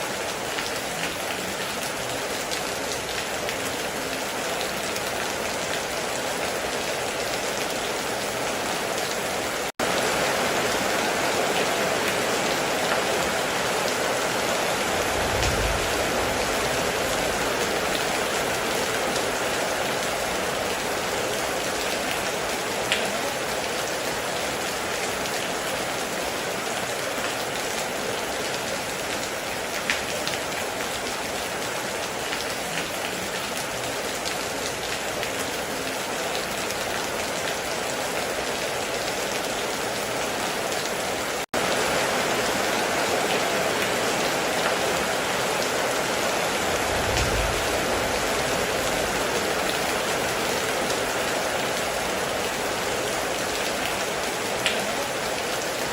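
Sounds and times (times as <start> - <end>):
heavy rain on a roof: 0.0 - 55.9.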